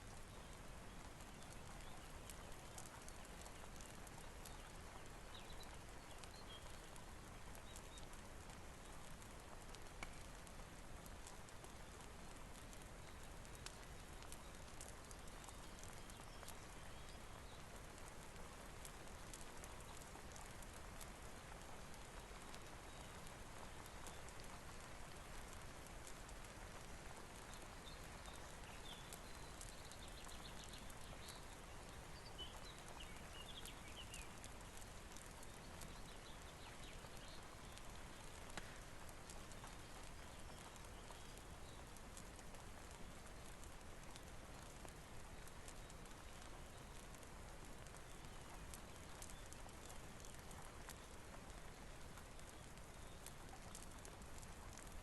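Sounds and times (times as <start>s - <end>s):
rain hiss: 0.0s - 55.0s
wood fire ticking and crackling: 0.0s - 55.0s.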